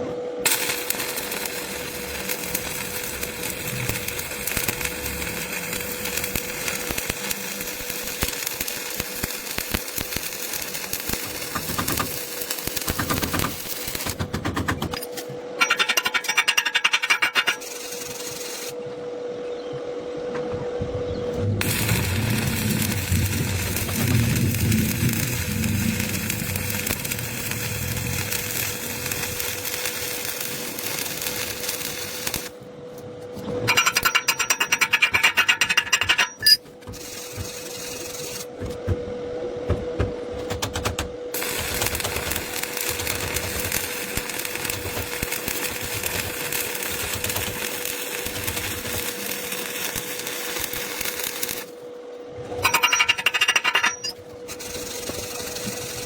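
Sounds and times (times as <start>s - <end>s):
arc welding crackling: 0.4s - 18.8s, 21.4s - 32.6s, 33.7s - 38.9s, 40.1s - 51.9s, 52.6s - 56.0s.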